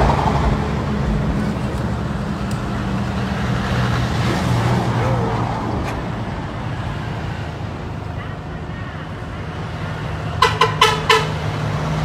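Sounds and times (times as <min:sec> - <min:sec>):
bus engine hum passing: 0:00.0 - 0:12.0
car passing: 0:00.0 - 0:12.0
motorbikes passing: 0:00.0 - 0:12.0
road traffic noise: 0:00.0 - 0:12.0.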